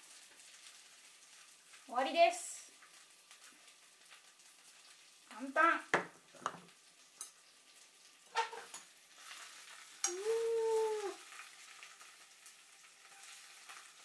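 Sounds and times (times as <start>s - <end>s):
greens sizzling in a frying pan: 0.0s - 14.0s.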